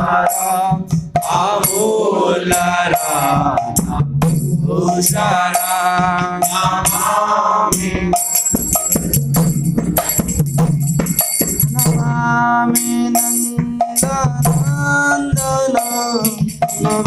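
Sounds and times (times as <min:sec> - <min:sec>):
hand cymbals ringing: 0:00.0 - 0:07.2, 0:07.8 - 0:17.0
person singing devotional line: 0:00.0 - 0:08.6, 0:11.8 - 0:17.0.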